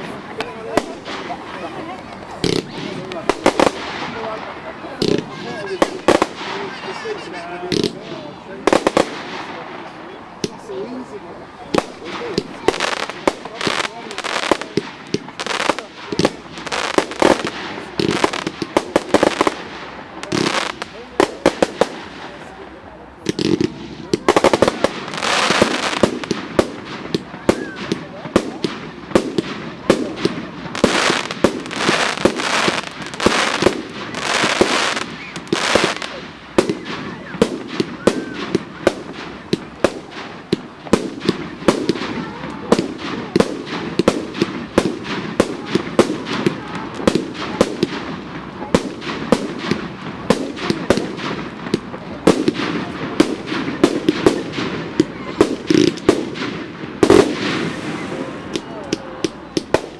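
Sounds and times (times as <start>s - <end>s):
fireworks bangs: 0.0s - 59.9s
fireworks hissing and crackling: 0.0s - 59.9s.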